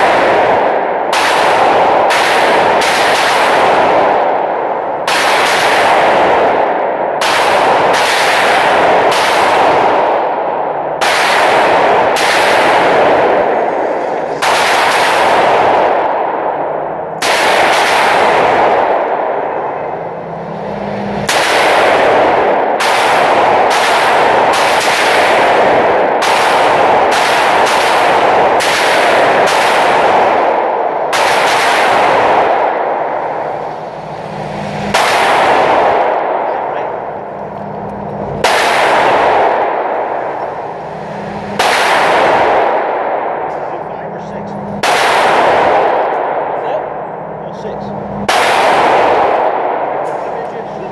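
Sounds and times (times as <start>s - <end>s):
gunshots with ringing echo: 0.0s - 50.9s
steady loud rumble: 0.0s - 50.9s.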